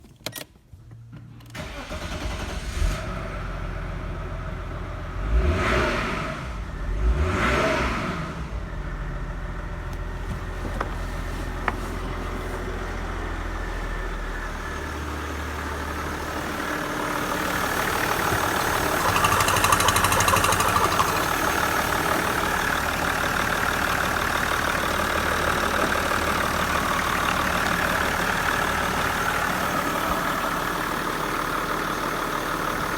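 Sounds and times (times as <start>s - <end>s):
diesel engine starting and running: 1.3s - 32.9s.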